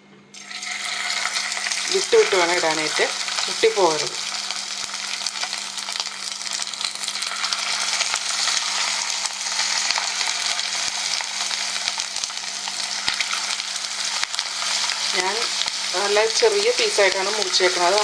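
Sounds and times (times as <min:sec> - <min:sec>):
chicken deep-frying in oil: 0:00.4 - 0:18.0.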